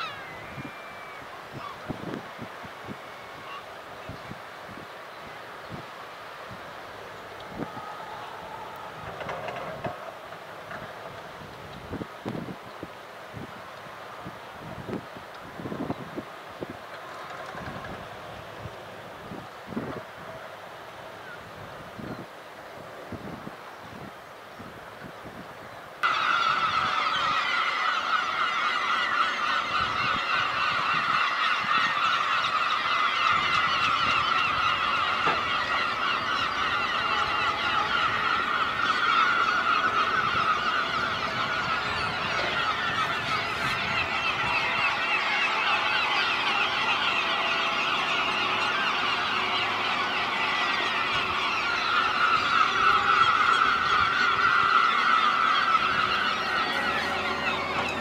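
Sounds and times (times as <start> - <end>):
flock of gulls calling: 0.0 - 25.2, 26.0 - 58.0.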